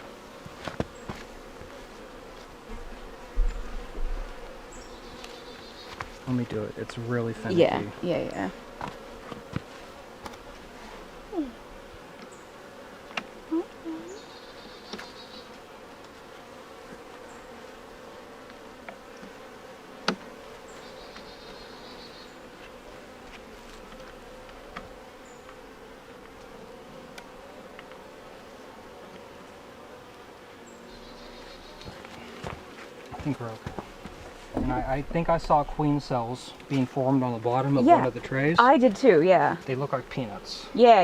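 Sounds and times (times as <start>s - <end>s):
honeybees humming: 0.0s - 41.0s.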